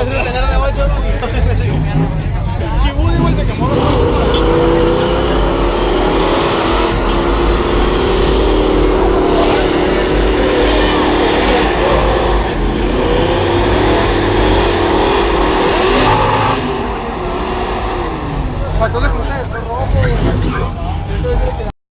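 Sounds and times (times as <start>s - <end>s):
car engines revving high: 0.0s - 21.7s.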